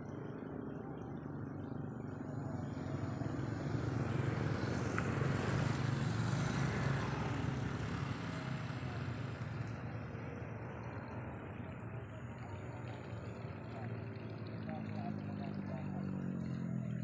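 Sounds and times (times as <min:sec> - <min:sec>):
motor vehicle passing: 0:00.0 - 0:17.0.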